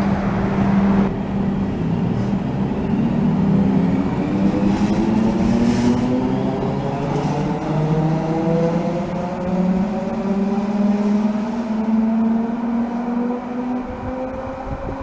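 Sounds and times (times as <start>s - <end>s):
electric train traction humming: 0.0s - 15.0s.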